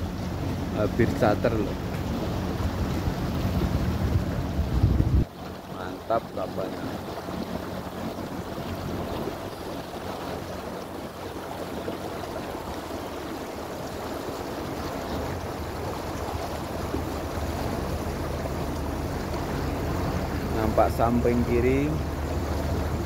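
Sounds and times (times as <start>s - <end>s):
boat engine humming: 0.0s - 23.0s
water washing against hull: 0.0s - 23.0s.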